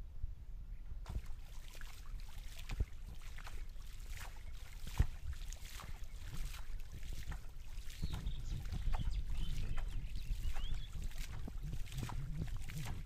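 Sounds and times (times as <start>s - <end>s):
water splashing and sloshing: 1.0s - 13.0s.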